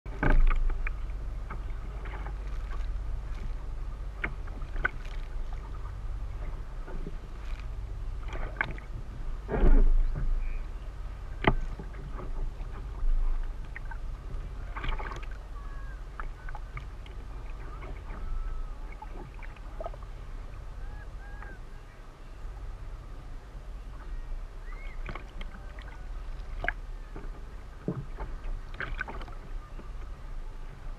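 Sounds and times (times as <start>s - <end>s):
paddle strokes splashing: 0.1s - 30.9s
steady low rumble: 0.1s - 30.9s
water slapping against hull: 0.1s - 30.9s.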